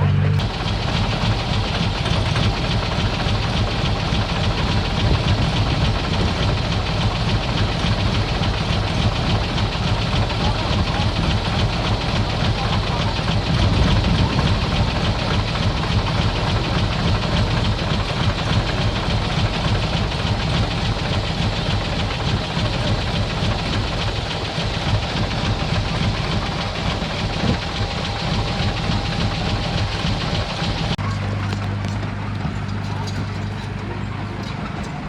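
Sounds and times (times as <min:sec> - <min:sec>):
bulldozer diesel engine rumbling: 0:00.0 - 0:35.0.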